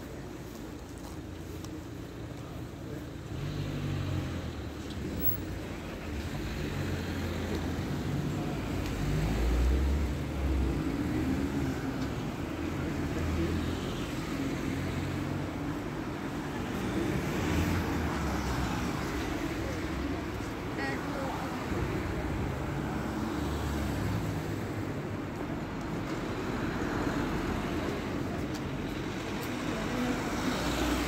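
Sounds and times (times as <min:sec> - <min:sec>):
vehicles driving past: 0:00.0 - 0:31.0.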